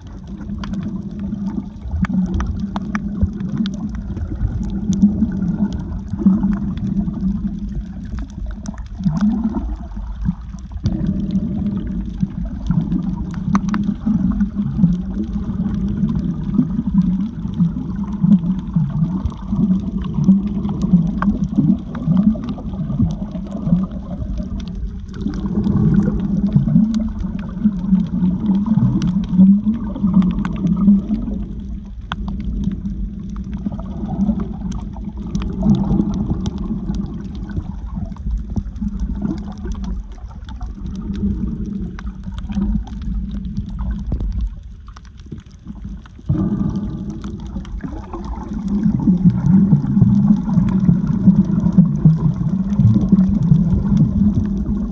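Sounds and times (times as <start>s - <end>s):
underwater gurgling and bubbling: 0.0s - 54.9s
faint clicks: 0.2s - 54.8s.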